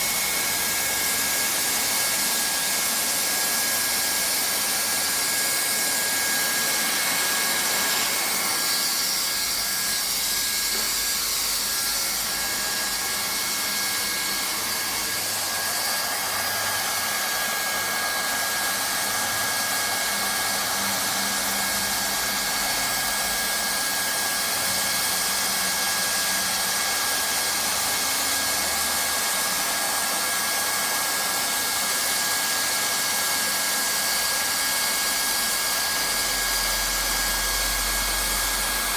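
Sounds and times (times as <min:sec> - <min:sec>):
hot-air gun blower hiss: 0:00.0 - 0:38.9.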